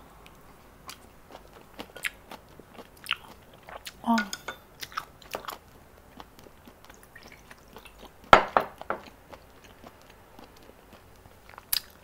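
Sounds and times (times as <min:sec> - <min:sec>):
person chewing: 0:00.2 - 0:12.0.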